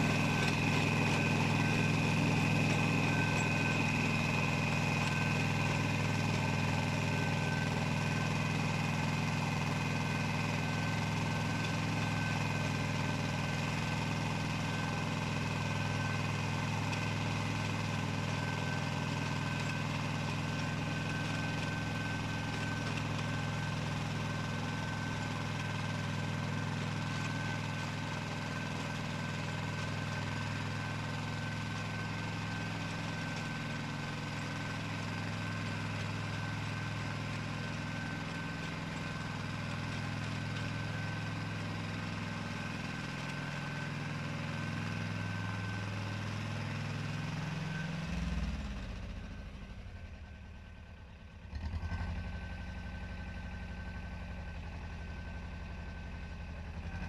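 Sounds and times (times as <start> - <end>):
tractor engine running under load: 0.0 - 57.0.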